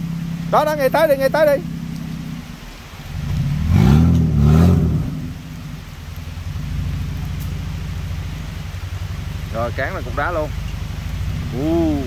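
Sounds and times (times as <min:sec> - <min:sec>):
four-wheel drive engine revving under load: 0:00.0 - 0:12.0.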